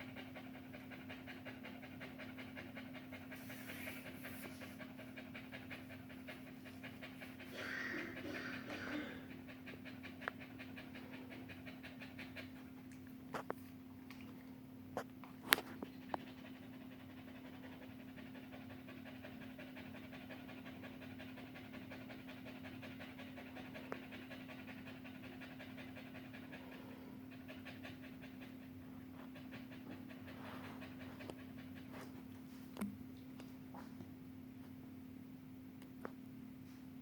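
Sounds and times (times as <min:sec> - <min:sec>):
dog panting: 0:00.0 - 0:32.8.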